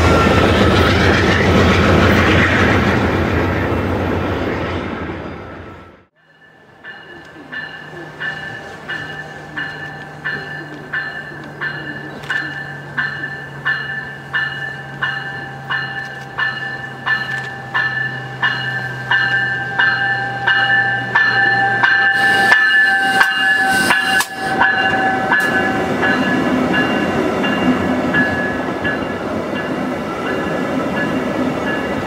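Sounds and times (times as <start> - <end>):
train bell ringing: 0.0 - 1.5, 5.3 - 32.0
train cars rumbling by: 0.0 - 32.0
train engine hum: 0.0 - 32.0.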